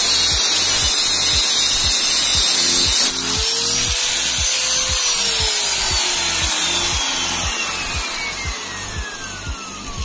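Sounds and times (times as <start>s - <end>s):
angle grinder spinning down: 0.0s - 10.0s
background music with a beat: 0.0s - 10.0s.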